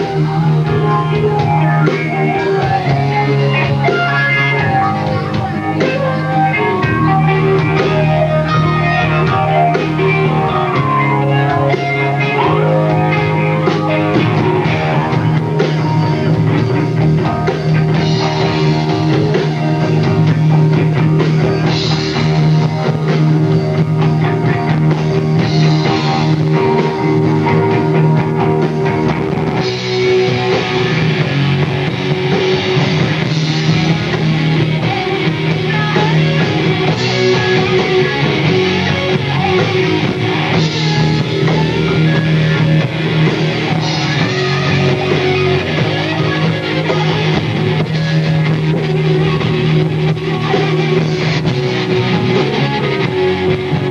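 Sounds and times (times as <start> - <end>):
bass guitar: 0.0 - 53.9
drum kit: 0.0 - 53.9
electric guitars: 0.0 - 53.9.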